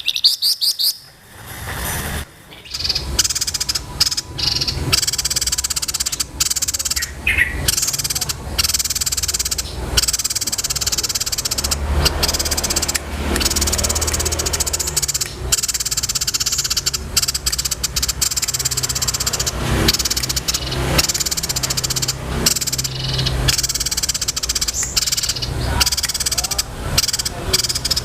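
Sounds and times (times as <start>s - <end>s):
songbird chattering trill: 0.0s - 1.1s, 2.5s - 28.0s.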